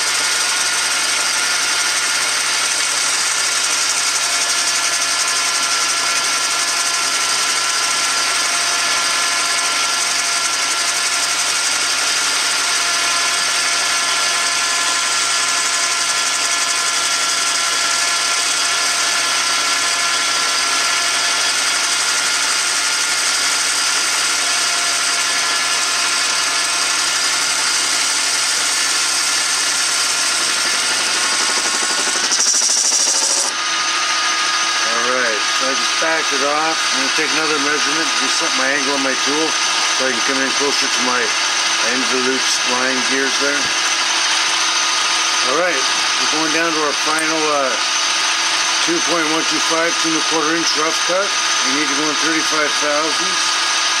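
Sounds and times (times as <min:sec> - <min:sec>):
cutting tool hiss: 0:00.0 - 0:54.0
lathe machine whine: 0:00.0 - 0:54.0.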